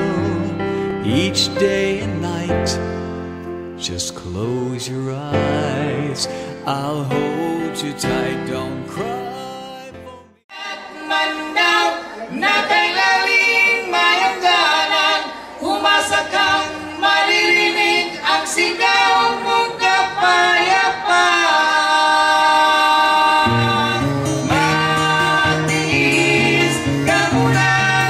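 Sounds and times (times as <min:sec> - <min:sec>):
a cappella singing: 0:00.0 - 0:02.8, 0:03.8 - 0:28.0.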